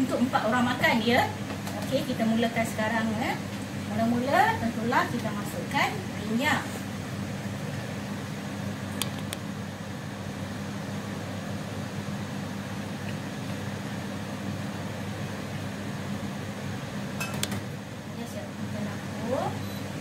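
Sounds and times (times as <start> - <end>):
kitchen fan humming: 0.0 - 20.0.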